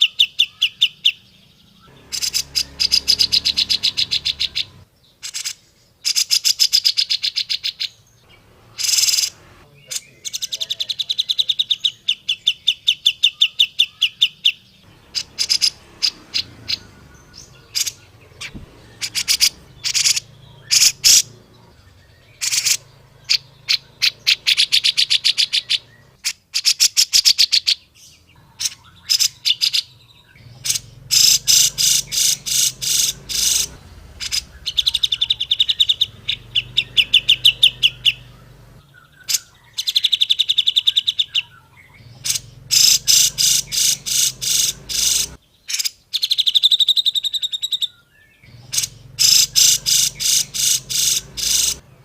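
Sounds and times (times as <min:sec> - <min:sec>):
bulbul chattering calls: 0:00.0 - 0:52.0.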